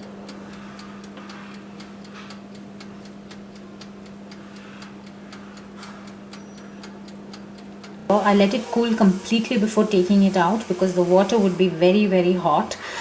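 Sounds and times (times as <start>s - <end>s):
mechanical timer ticking: 0.0s - 12.8s
oven humming: 0.0s - 13.0s.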